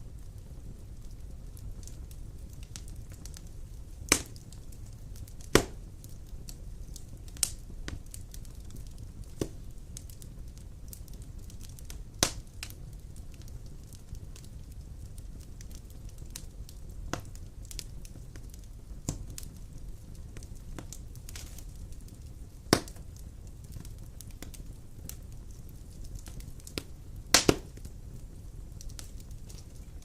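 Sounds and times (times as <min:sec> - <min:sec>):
wood fire crackling: 0:00.0 - 0:30.0
sharp pops of fire: 0:00.1 - 0:30.0.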